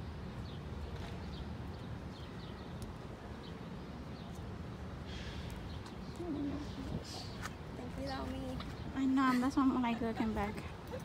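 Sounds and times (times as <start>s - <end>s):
small birds chirping: 0.0s - 11.0s
steady low street rumble: 0.0s - 11.0s.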